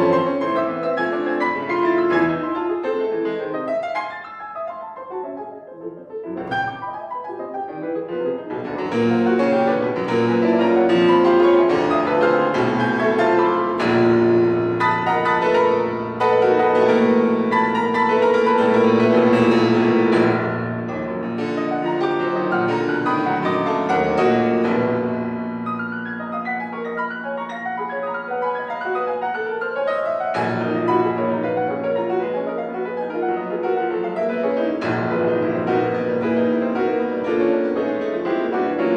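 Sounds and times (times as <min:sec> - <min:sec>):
solo classical piano: 0:00.0 - 0:38.9.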